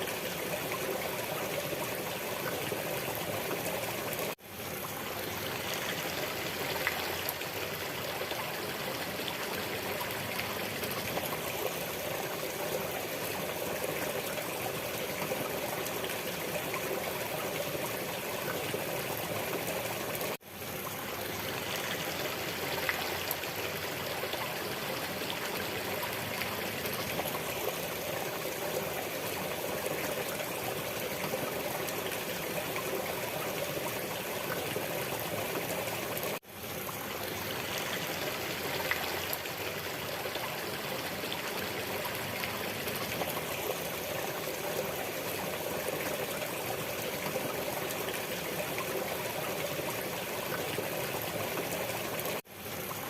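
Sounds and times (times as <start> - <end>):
running water trickling: 0.0 - 53.0.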